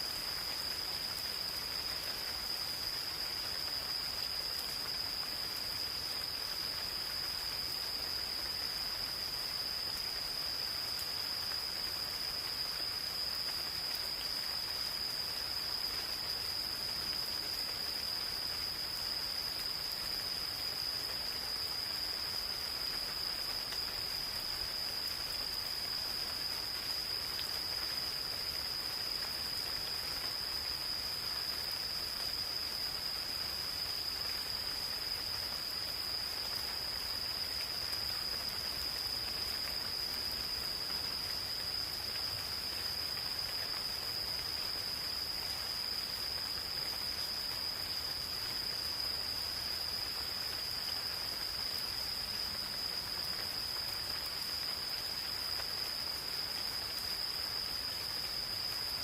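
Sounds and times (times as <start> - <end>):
insects trilling: 0.0 - 59.0
light rain on leaves: 0.0 - 59.0.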